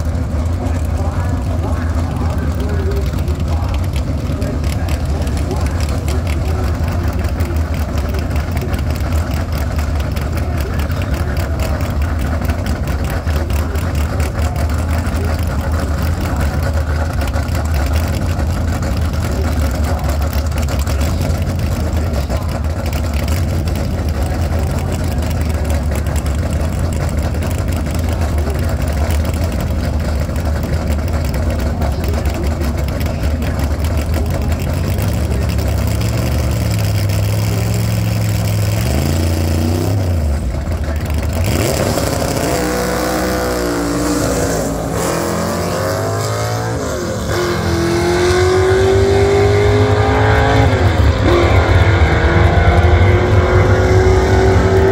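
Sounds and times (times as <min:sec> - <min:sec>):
engine revving: 0:00.0 - 0:54.9
race car engines idling: 0:00.0 - 0:54.9.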